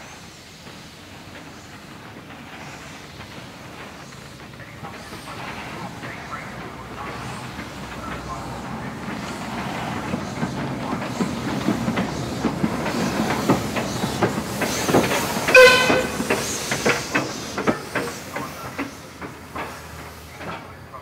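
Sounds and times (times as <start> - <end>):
steam hiss: 0.0 - 21.0
train wheels clicking on rail joints: 0.1 - 21.0.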